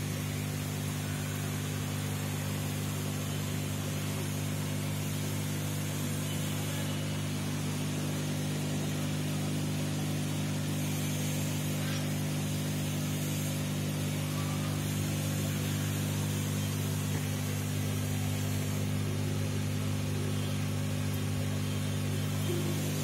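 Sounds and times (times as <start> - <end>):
air pump humming: 0.0 - 23.0.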